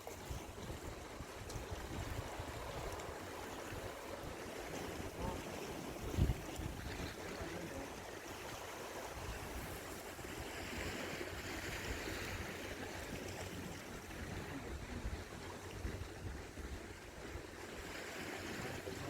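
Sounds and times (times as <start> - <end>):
sea waves washing: 0.0 - 19.0
wind rumble on microphone: 0.0 - 19.0.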